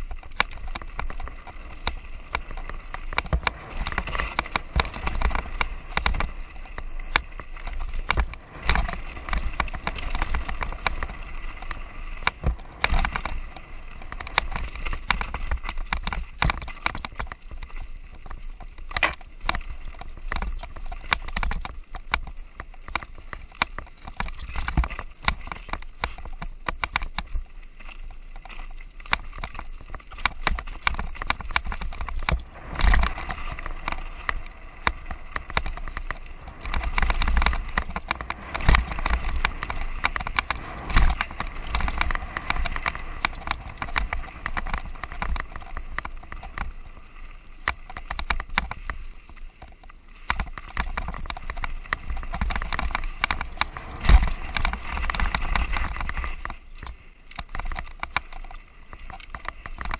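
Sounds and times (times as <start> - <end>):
bike rattling over stones: 0.0 - 59.9.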